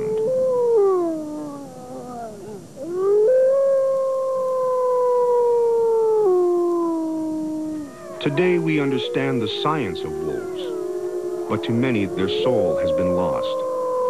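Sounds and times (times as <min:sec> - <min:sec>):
wolf howling: 0:00.0 - 0:14.0.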